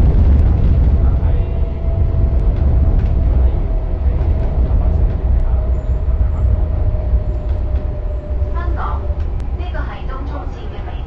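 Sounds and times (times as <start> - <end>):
train rumbling in a tunnel: 0.0 - 11.0.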